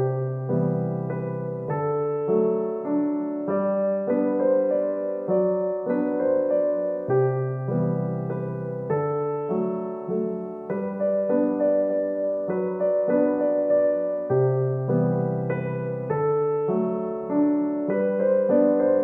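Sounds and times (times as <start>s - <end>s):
piano-like keyboard playing chords: 0.0s - 19.0s.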